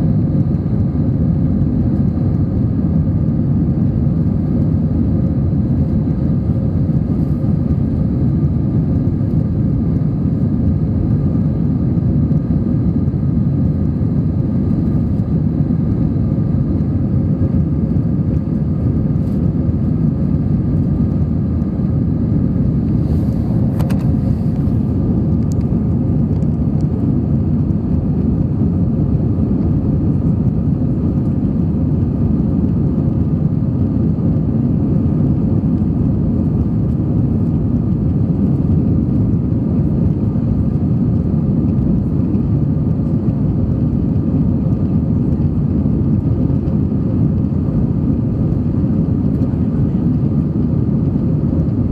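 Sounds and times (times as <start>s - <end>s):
jet cabin engine rush: 0.0s - 51.9s.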